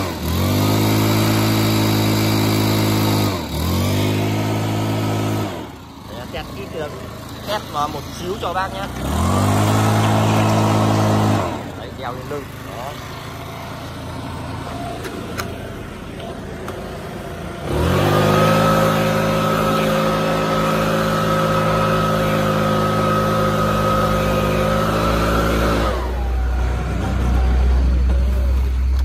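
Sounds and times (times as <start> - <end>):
leaf blower engine: 0.0 - 29.0.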